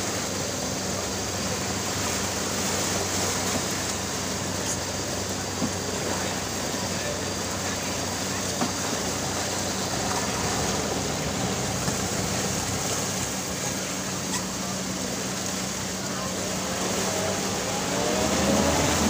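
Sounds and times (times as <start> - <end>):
outboard motor humming: 0.0 - 19.0
water rushing from hull: 0.0 - 19.0.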